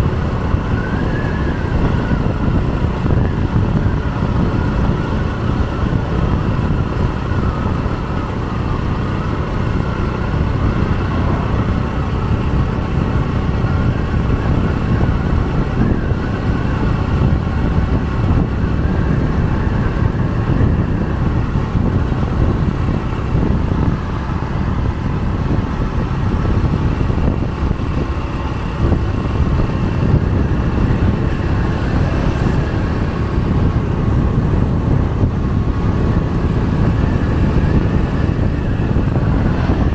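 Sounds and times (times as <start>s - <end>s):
vehicle road noise rumble: 0.0s - 39.9s.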